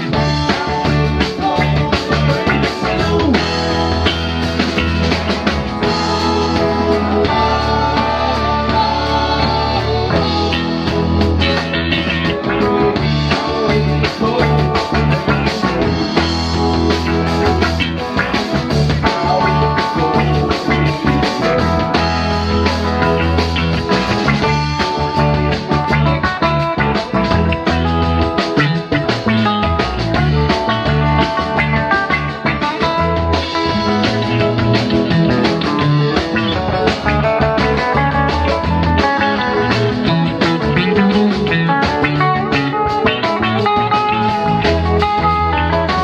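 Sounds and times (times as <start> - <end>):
guitar: 0.0 - 46.0
live rock band playing: 0.0 - 46.0.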